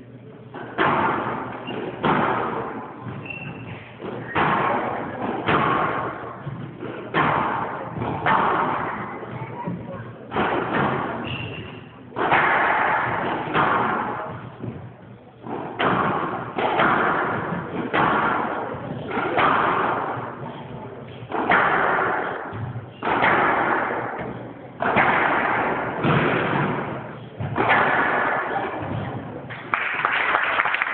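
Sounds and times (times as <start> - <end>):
squash racket hitting ball: 0.5 - 29.7
ball hitting court walls: 0.5 - 30.0.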